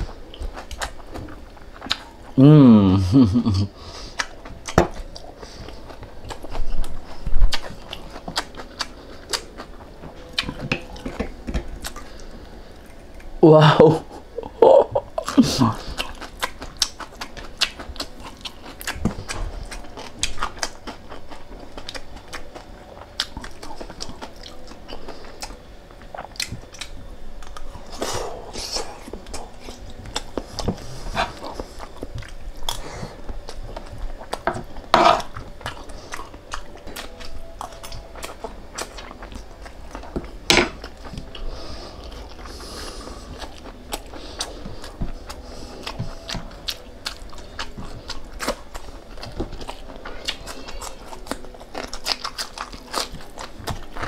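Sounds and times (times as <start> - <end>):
person chewing crunchy food: 0.0 - 13.4, 14.0 - 54.0.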